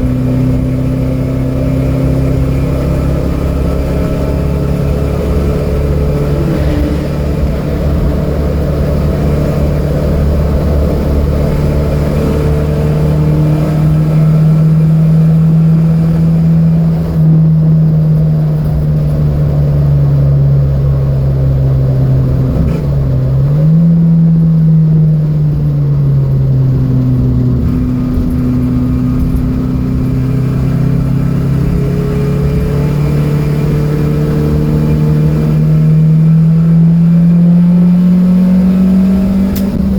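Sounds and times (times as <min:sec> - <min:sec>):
race car engine at high revs: 0:00.0 - 0:39.9.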